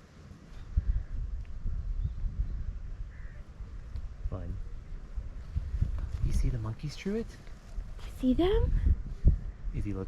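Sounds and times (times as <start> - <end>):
wind buffeting microphone: 0.2 - 10.0.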